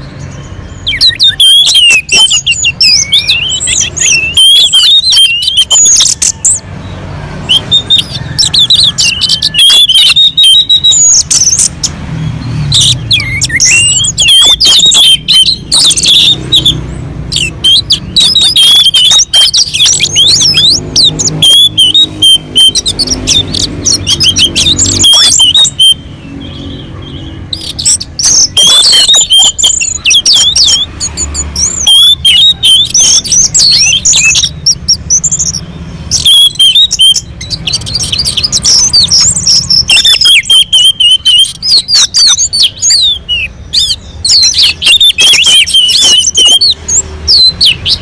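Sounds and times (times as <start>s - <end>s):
thrush singing: 0.0s - 48.0s.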